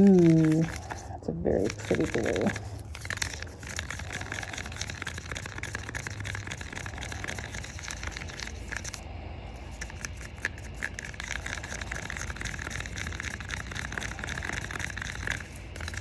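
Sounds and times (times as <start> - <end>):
stick stirring resin in a cup: 0.0 - 9.0, 9.6 - 16.0.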